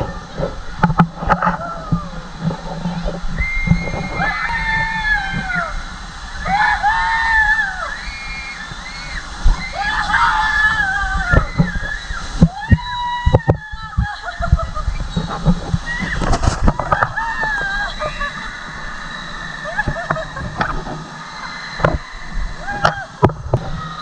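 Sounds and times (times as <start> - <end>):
water rushing and sloshing: 0.0 - 24.0
riders screaming: 1.3 - 2.3, 3.3 - 24.0.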